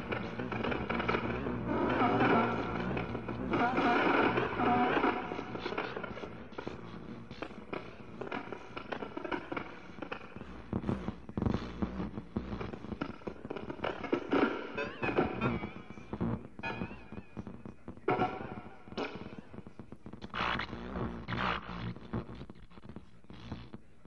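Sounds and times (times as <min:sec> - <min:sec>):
crackling and sputtering clicks: 0:00.0 - 0:24.0
distorted noise music: 0:00.0 - 0:24.0.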